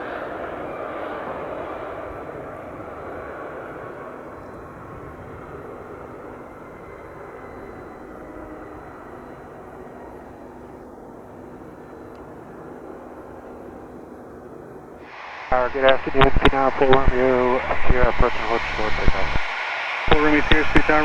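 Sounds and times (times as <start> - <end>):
high turbine whine: 0.0 - 21.0
jet engine roar: 0.0 - 21.0.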